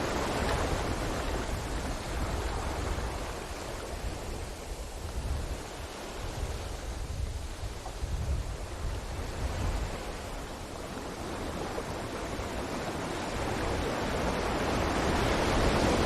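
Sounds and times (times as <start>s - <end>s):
ocean waves on beach: 0.0s - 16.0s.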